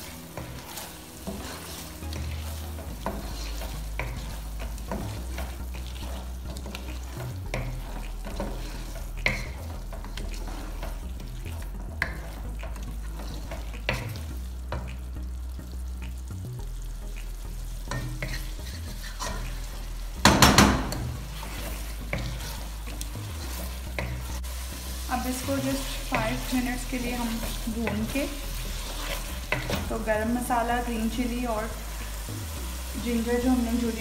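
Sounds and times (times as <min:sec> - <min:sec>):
spatula scraping and knocking pan: 0:00.0 - 0:15.0, 0:17.2 - 0:30.4
food sizzling in a pan: 0:00.0 - 0:34.0.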